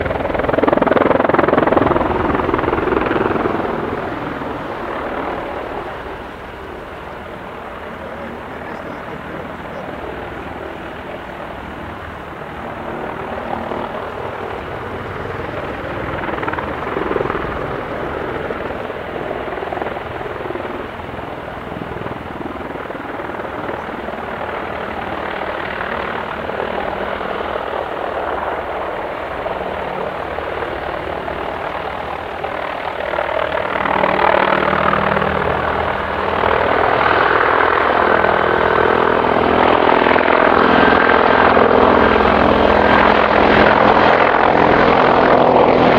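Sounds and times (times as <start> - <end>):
helicopter rotor and engines: 0.0 - 45.9.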